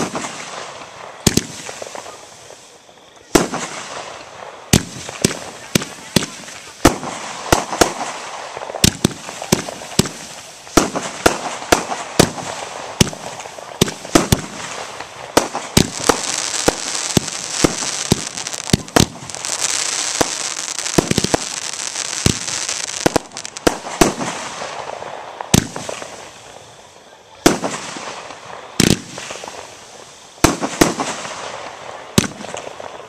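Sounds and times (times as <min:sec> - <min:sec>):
fireworks bangs: 0:00.0 - 0:33.0
fireworks hissing crackle: 0:00.0 - 0:33.0.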